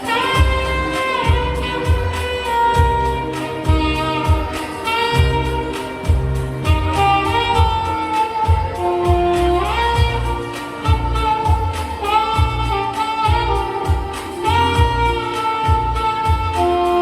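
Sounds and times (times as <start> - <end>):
backing track with steady beat: 0.0 - 17.0
saxophone melody: 0.0 - 17.0.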